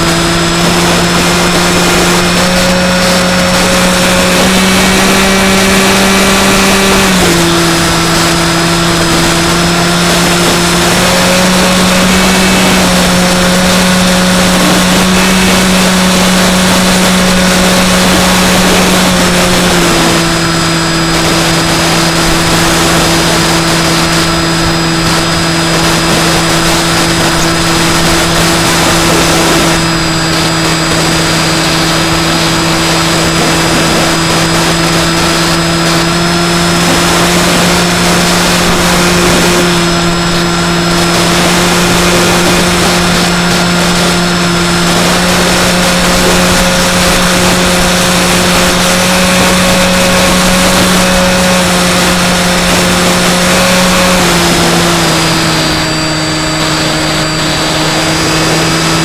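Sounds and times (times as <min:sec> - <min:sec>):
electric motor and propeller droning: 0:00.0 - 0:59.0.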